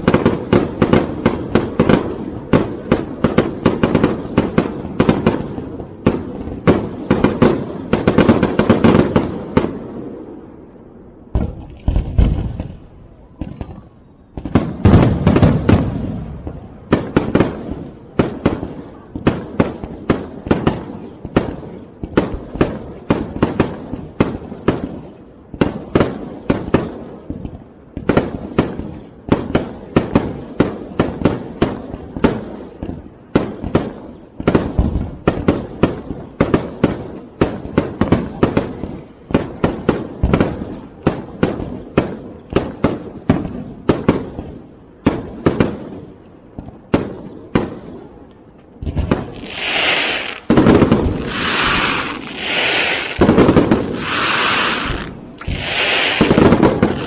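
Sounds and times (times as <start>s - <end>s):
fireworks bangs with rumbling echo: 0.0s - 57.0s.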